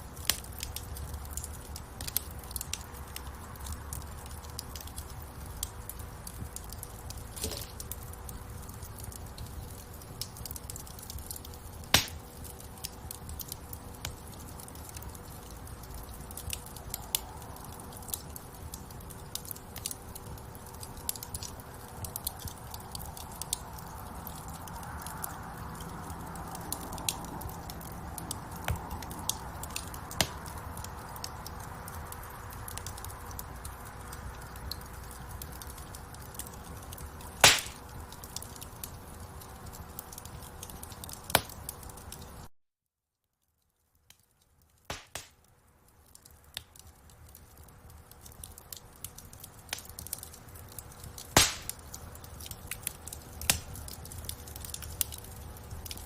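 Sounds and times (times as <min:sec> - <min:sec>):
wood fire crackling: 0:00.0 - 0:42.5, 0:43.4 - 0:56.0.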